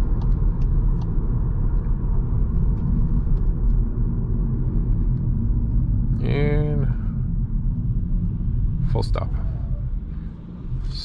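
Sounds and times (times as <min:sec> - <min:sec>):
car engine running: 0:00.0 - 0:11.0
tyre and road noise: 0:00.0 - 0:11.0.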